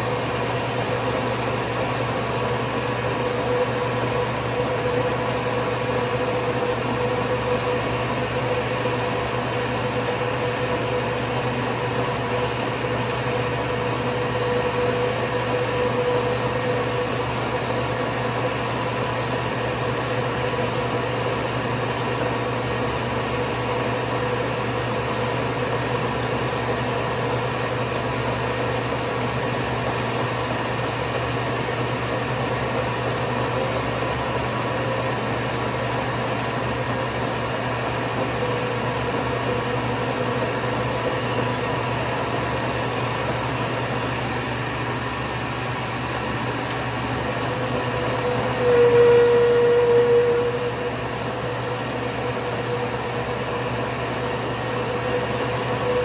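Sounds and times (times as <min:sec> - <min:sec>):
lathe machine hum and whine: 0:00.0 - 0:56.0.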